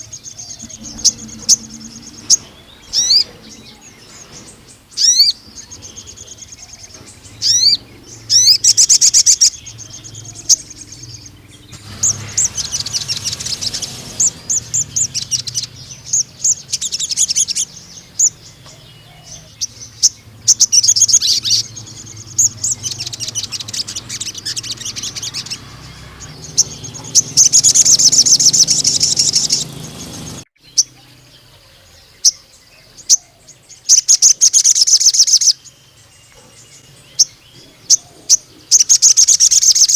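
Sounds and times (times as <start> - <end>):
bird singing high trills and chirps: 0.0 - 39.9.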